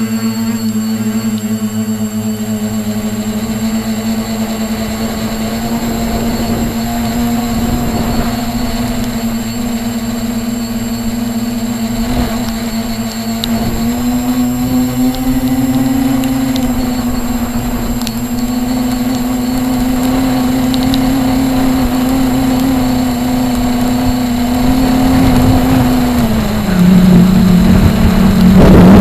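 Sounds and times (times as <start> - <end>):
model helicopter rotor whirring: 0.0 - 29.0.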